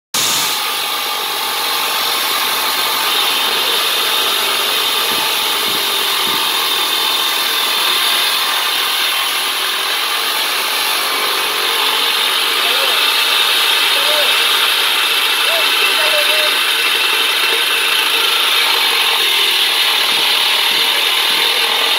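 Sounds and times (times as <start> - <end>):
diamond cutter grinding concrete: 0.1 - 21.9.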